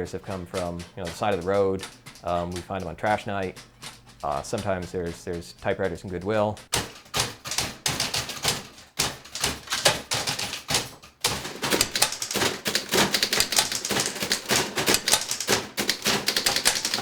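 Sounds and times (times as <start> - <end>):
typewriter keys clacking: 0.0 - 17.0.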